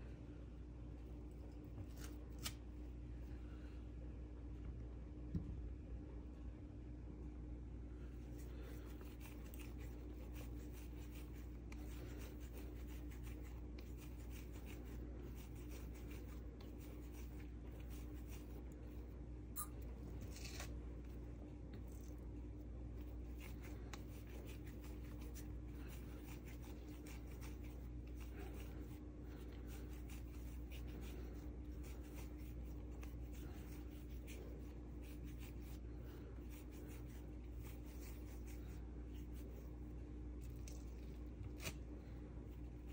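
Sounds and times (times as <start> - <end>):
steady low hum: 0.0 - 42.9
hands rubbing dough: 8.0 - 42.9.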